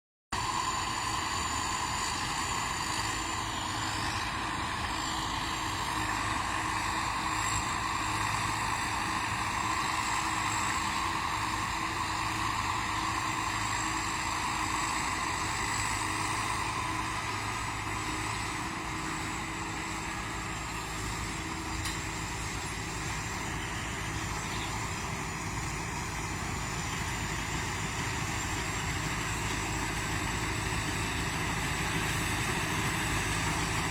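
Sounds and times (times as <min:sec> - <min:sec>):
combine harvester engine drone: 0:00.3 - 0:33.9
high whine: 0:00.3 - 0:33.9.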